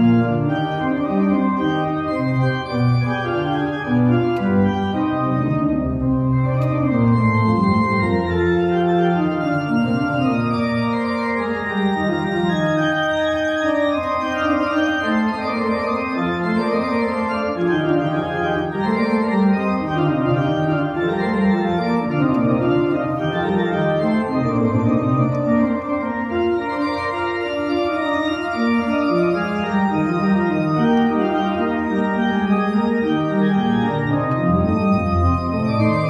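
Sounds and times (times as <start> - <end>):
church organ chords: 0.0 - 36.0.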